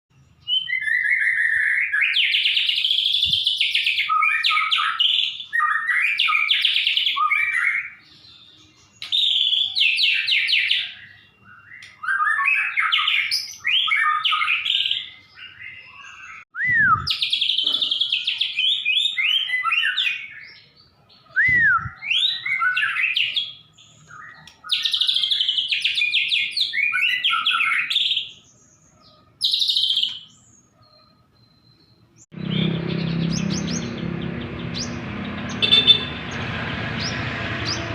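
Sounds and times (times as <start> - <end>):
birds singing: 0.1 - 37.9.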